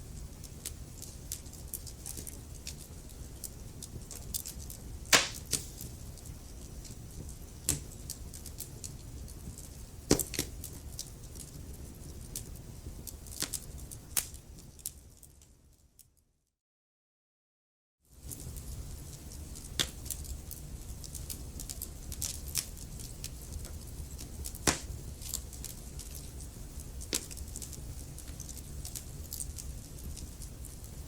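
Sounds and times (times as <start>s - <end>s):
wood fire crackling: 0.0s - 15.6s, 18.1s - 31.0s.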